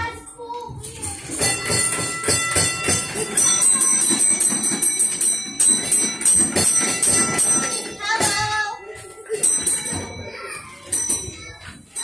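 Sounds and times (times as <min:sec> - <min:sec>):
bells jingling and ringing: 0:00.0 - 0:12.0.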